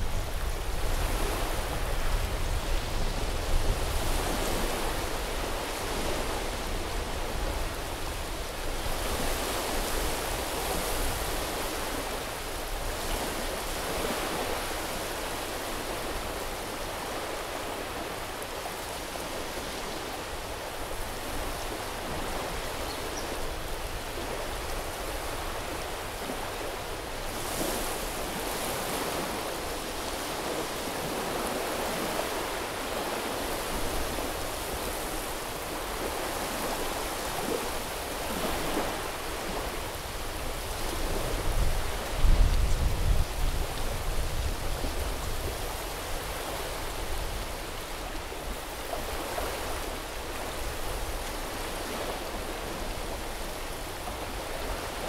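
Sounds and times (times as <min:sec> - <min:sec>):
sea waves washing on beach: 0:00.0 - 0:55.0.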